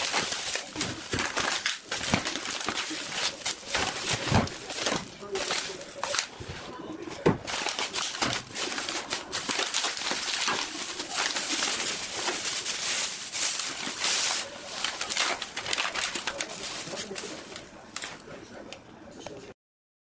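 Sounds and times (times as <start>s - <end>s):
plastic bags crinkling: 0.0s - 18.6s.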